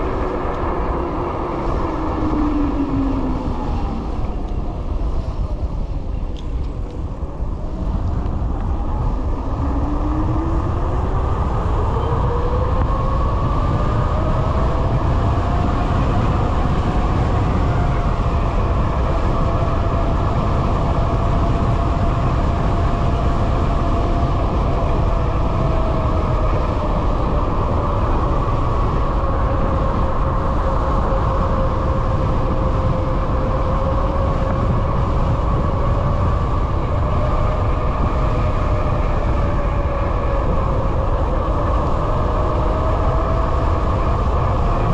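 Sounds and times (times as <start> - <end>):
wind rumble on microphone: 0.0 - 44.9.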